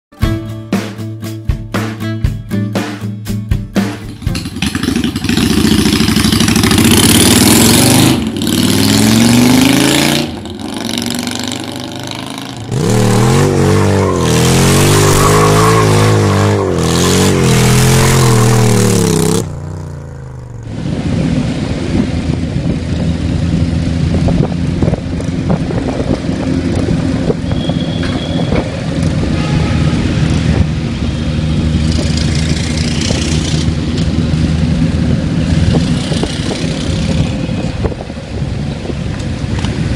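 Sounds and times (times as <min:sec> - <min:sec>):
motorcycle engine revving and idling: 0:03.6 - 0:39.9.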